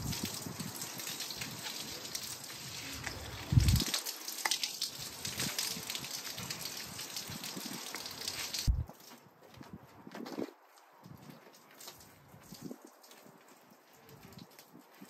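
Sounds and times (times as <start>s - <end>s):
water running and dripping: 0.0s - 9.2s, 10.8s - 15.0s.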